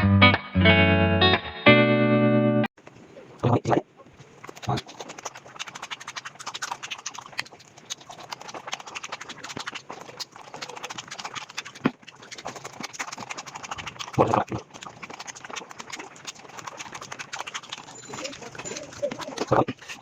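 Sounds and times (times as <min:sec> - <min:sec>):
rapid chewing and smacking: 0:02.8 - 0:20.0.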